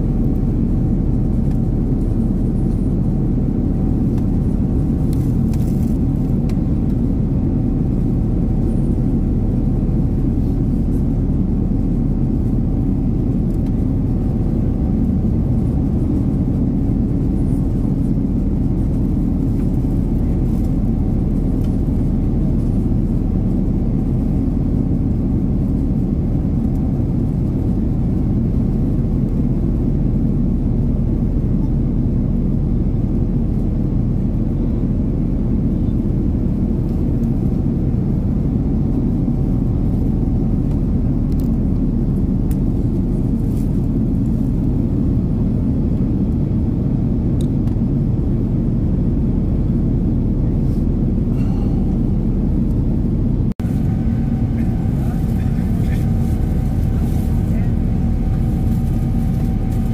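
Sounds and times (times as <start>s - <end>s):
aircraft cabin engine roar: 0.0s - 59.9s
faint steady hum: 0.0s - 59.9s.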